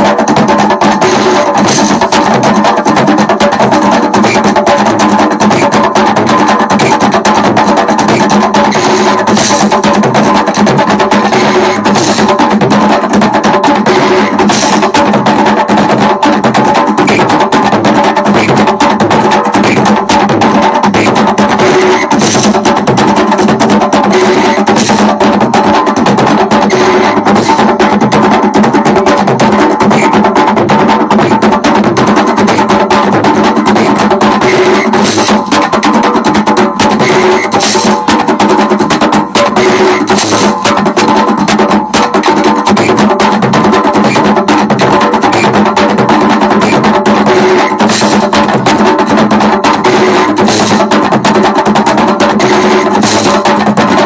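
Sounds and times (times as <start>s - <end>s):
hand drums playing: 0.0s - 54.0s
sharp wooden knocks: 0.0s - 54.0s.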